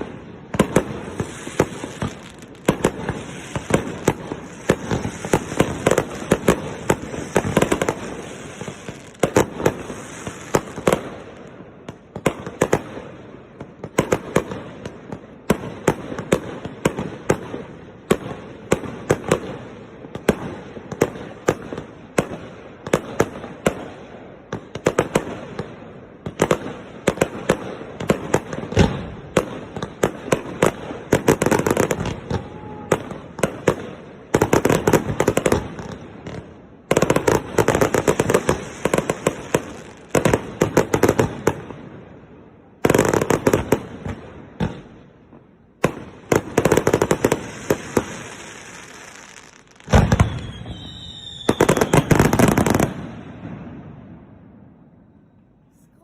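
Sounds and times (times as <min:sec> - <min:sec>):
fireworks crackling: 0:00.0 - 0:42.0, 0:45.8 - 0:53.8
fireworks bangs: 0:00.0 - 0:54.9.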